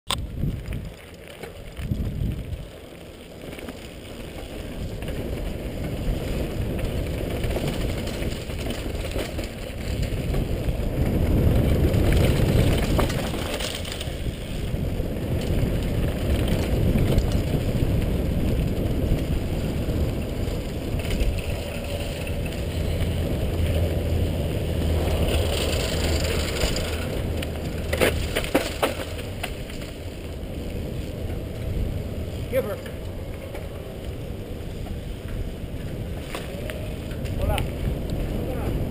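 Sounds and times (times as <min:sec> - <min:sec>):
tyres crunching over gravel: 0:00.2 - 0:38.5.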